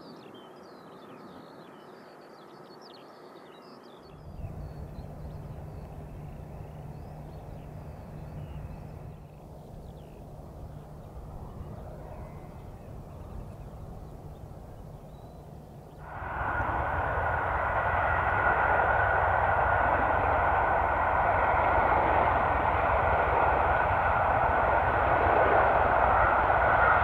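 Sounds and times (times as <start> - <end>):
steady low rumble: 4.2 - 27.0.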